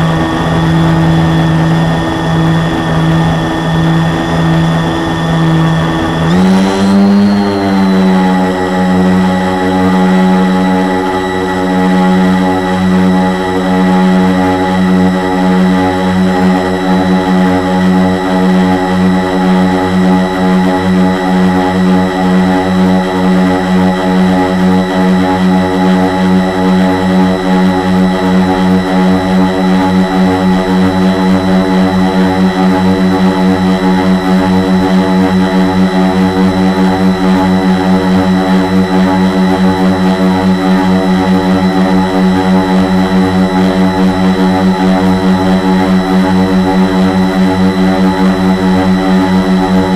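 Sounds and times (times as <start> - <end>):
drone motors humming: 0.0 - 49.9.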